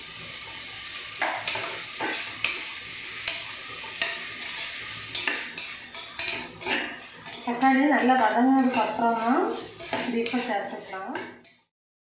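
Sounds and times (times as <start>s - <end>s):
food sizzling in oil: 0.0s - 11.7s
spoon scraping a pot: 1.2s - 11.7s.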